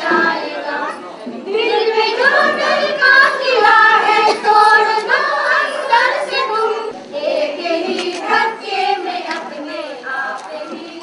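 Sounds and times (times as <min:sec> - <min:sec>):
high voices singing together: 0:00.0 - 0:11.0.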